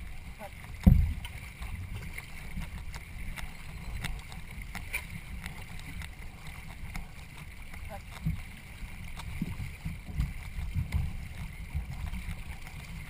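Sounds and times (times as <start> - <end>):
paddles in water: 0.0 - 13.0
faint ticks: 0.4 - 13.0.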